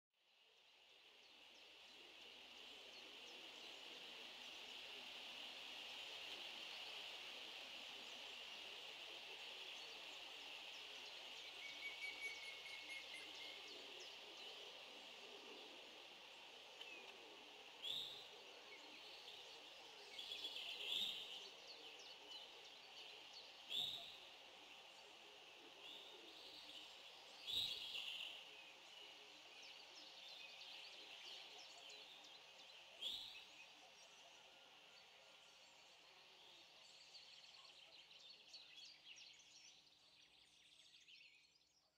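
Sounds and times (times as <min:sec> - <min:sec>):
steady high hiss: 0:00.3 - 0:41.1.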